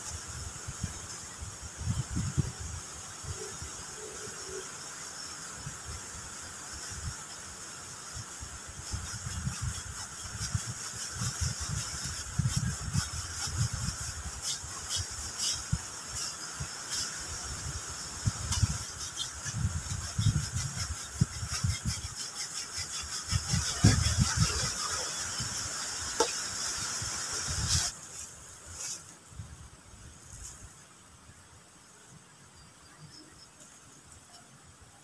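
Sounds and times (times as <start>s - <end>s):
insect chorus: 0.0s - 35.0s.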